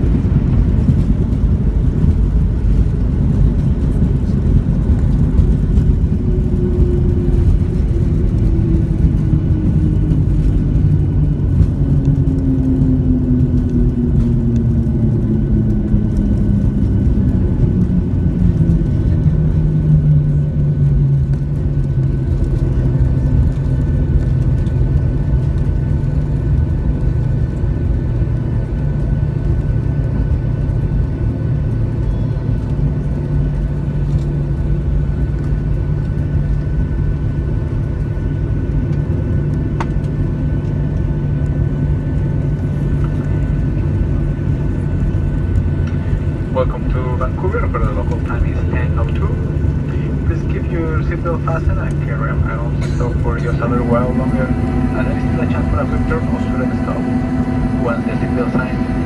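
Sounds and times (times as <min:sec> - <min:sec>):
aircraft cabin rumble: 0:00.0 - 0:59.0
jet engine whine: 0:00.0 - 0:59.0.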